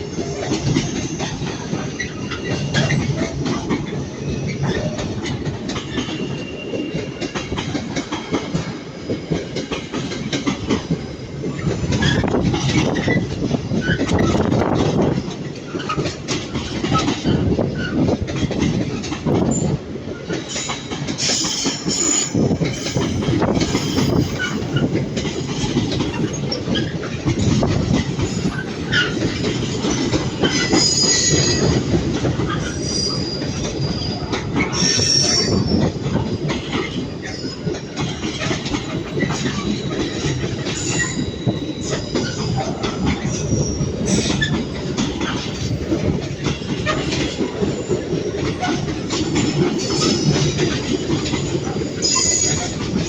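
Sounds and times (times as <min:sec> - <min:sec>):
train rumble: 0:00.0 - 0:53.0
train wheels clattering: 0:00.0 - 0:53.0.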